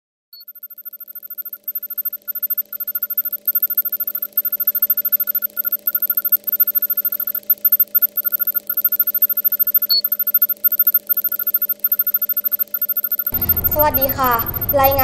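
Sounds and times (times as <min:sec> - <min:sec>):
electronic buzzing pulsing tones: 0:01.1 - 0:15.0.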